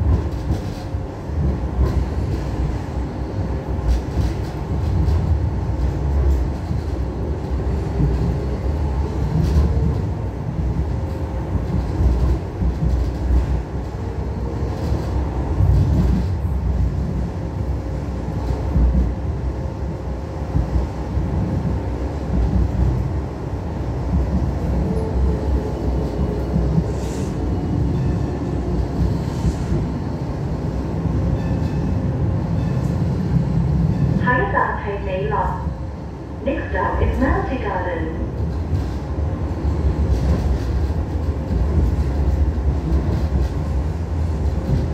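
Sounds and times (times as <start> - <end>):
train rumbling on track: 0.0 - 44.9.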